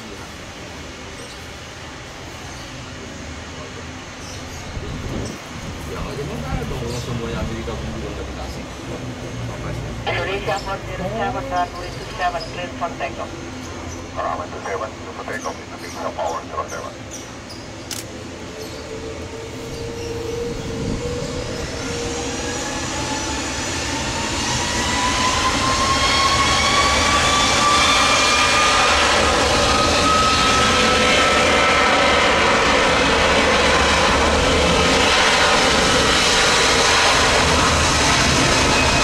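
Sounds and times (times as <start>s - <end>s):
jet engines spooling up: 4.8s - 16.9s, 17.8s - 39.0s.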